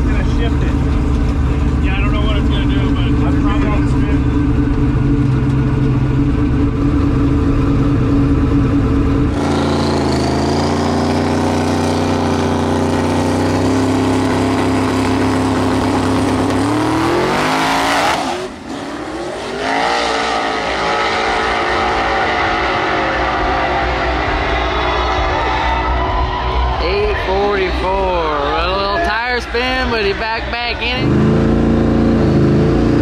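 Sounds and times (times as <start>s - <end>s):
drag-race engines revving: 0.0s - 33.0s.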